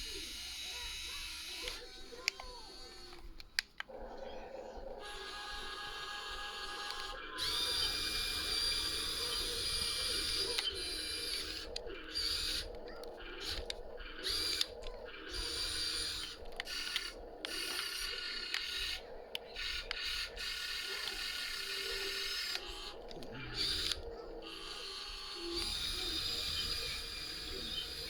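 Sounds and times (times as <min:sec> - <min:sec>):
excavator mechanical whirring: 0:00.0 - 0:28.0.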